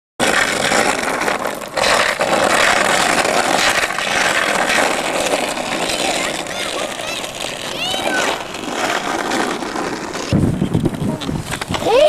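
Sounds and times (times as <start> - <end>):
skateboard wheels rolling on asphalt: 0.2 - 12.0.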